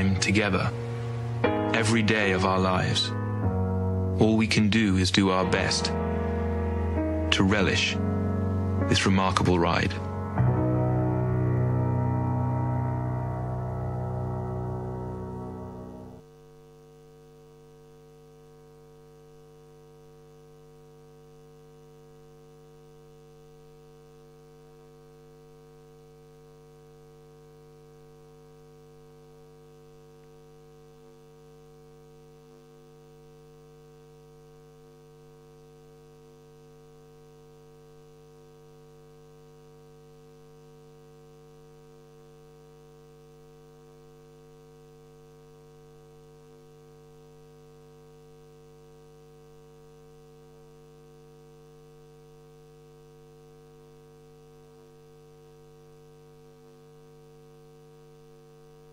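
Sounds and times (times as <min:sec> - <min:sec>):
electrical mains hum: 0:00.0 - 0:58.9
faint hiss: 0:00.0 - 0:58.9.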